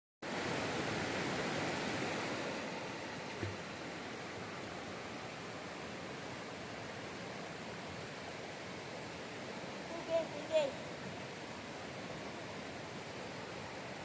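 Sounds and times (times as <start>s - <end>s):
waterfall rushing: 0.3s - 14.0s.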